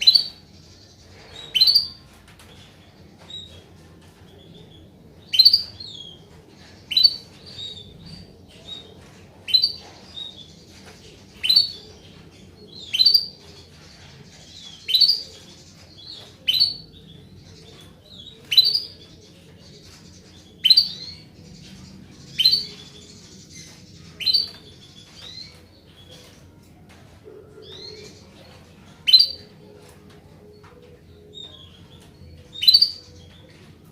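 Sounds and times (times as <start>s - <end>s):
canary chirping: 0.0s - 33.9s.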